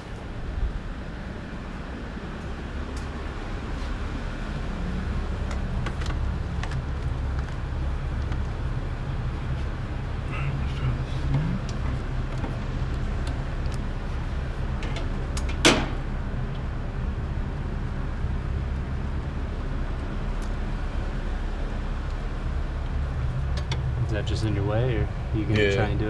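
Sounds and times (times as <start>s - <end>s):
steady low drone: 0.0s - 26.0s.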